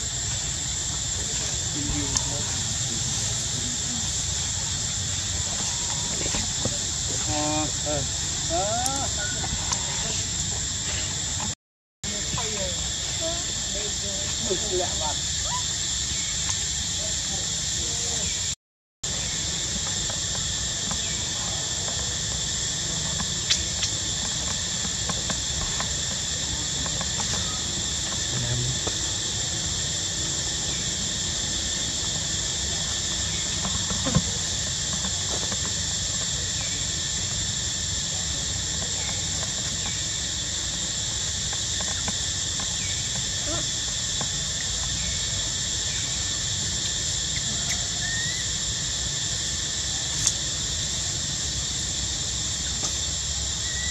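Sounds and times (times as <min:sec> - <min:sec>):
insects droning high-pitched: 0:00.0 - 0:53.9.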